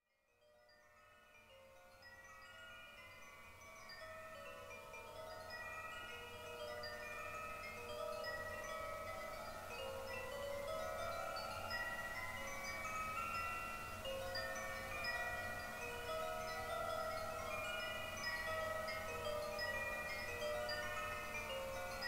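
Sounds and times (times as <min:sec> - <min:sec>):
wind chimes ringing: 0:00.1 - 0:22.0.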